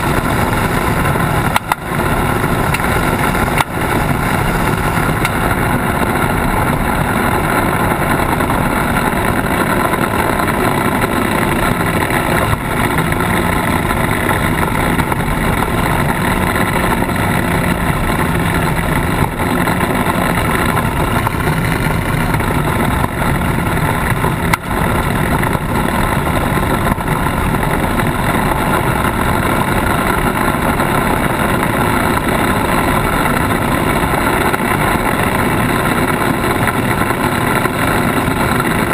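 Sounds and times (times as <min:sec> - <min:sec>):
off-road vehicle engine: 0:00.0 - 0:38.9
tyres on gravel: 0:00.0 - 0:38.9.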